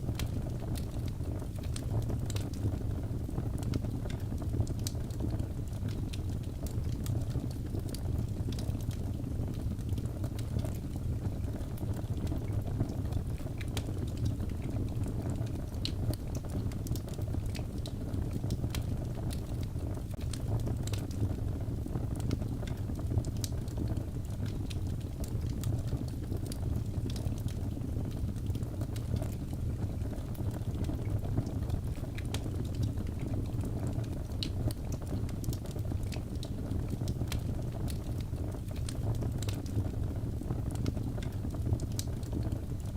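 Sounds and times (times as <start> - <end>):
fire crackling and popping: 0.0 - 42.9
low rumble of flames: 0.0 - 42.9.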